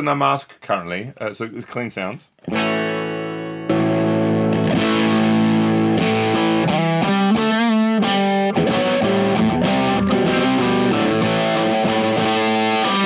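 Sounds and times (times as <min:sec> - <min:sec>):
overdriven electric guitar chords: 0:02.4 - 0:13.0.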